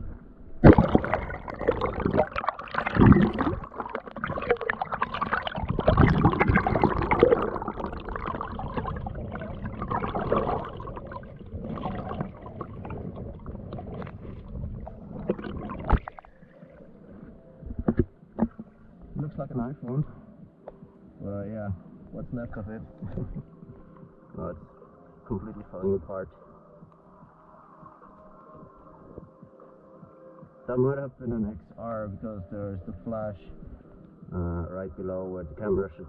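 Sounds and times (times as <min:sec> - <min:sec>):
muffled underwater river gurgling: 0:00.0 - 0:36.0.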